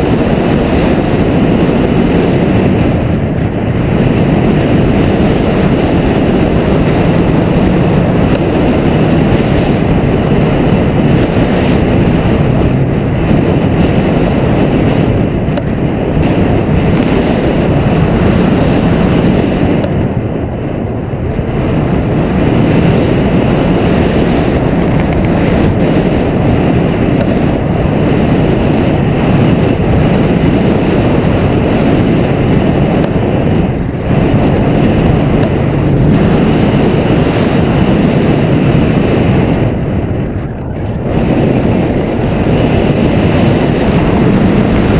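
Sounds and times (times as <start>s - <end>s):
wind rumbling on microphone: 0.0s - 44.9s.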